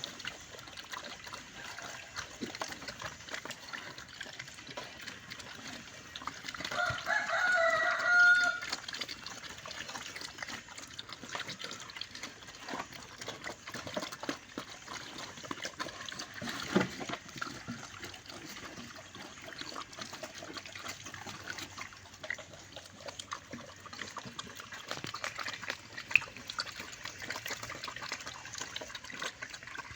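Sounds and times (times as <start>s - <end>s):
pigs chewing and slurping: 0.0s - 29.9s.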